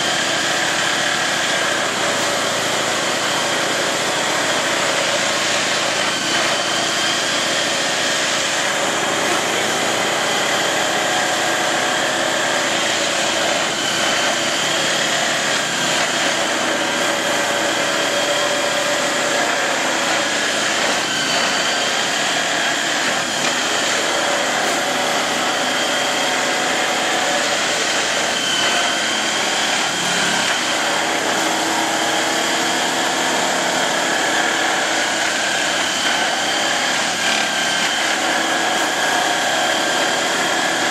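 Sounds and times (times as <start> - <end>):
track tamping machine running: 0.0 - 40.9.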